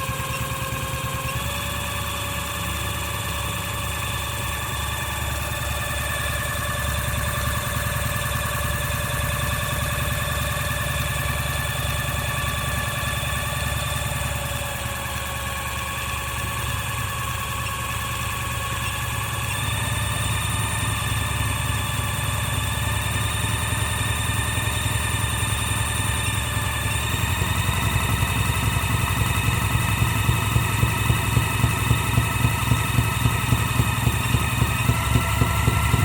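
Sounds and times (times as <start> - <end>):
small electric motor humming and whining: 0.0 - 36.0.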